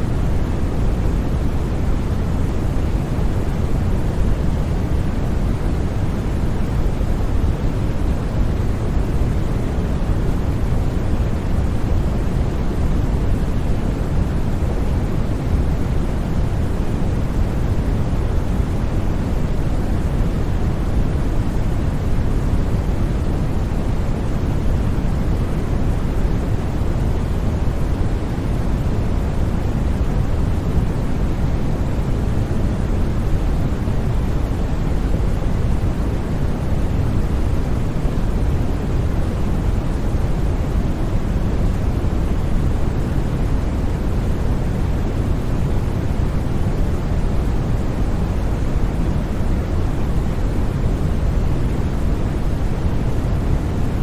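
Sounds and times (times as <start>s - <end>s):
low synthetic white noise: 0.0s - 54.0s.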